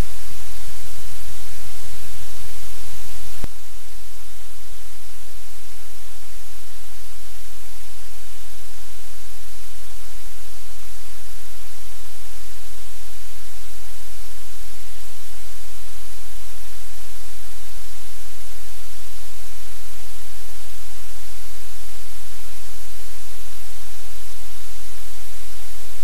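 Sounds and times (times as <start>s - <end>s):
loud static hiss: 0.0s - 26.0s.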